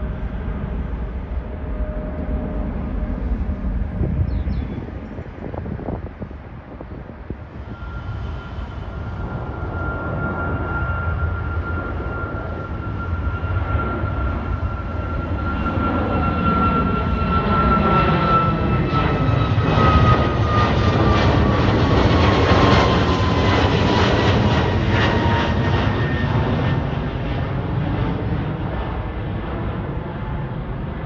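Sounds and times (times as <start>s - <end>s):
high jet fan whine: 0.0s - 29.6s
jet airliner roaring overhead: 0.0s - 31.0s.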